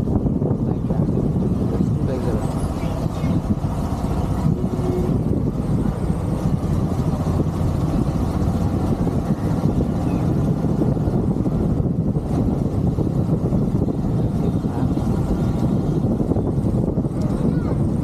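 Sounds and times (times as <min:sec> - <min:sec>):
motorcycle engine rumble: 0:00.0 - 0:18.0
wind rushing on microphone: 0:00.0 - 0:18.0.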